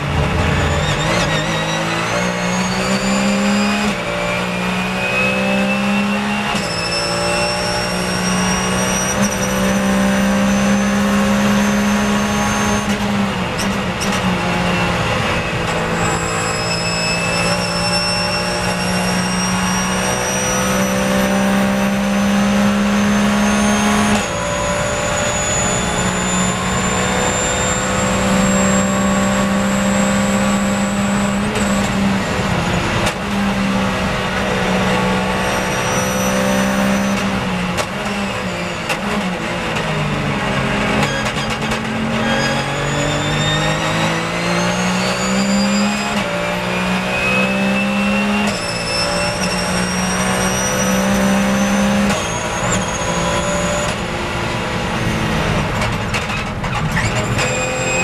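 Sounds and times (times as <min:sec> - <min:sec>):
racing engine at full throttle: 0:00.0 - 0:58.0
engine downshifts while braking: 0:01.0 - 0:58.0.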